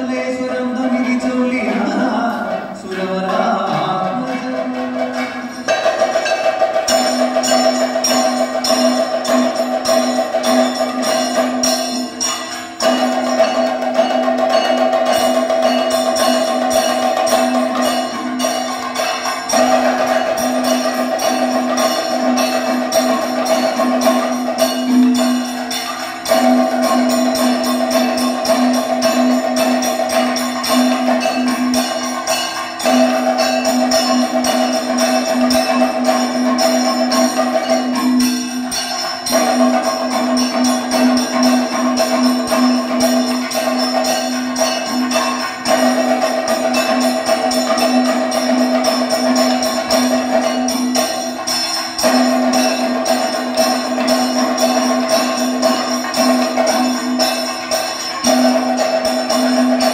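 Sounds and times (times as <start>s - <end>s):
drums played in fast strokes: 0.0s - 59.9s.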